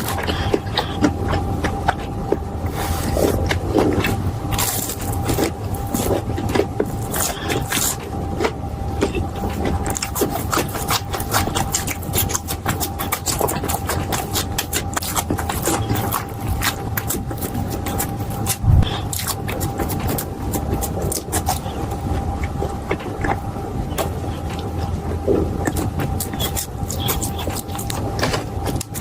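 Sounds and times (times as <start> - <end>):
crunching and chewing: 0.0 - 29.0.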